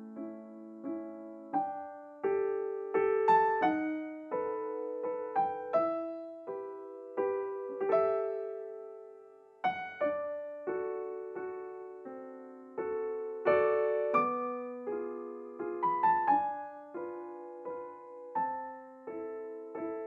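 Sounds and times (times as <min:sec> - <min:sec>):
slow solo piano piece: 0:00.0 - 0:20.0.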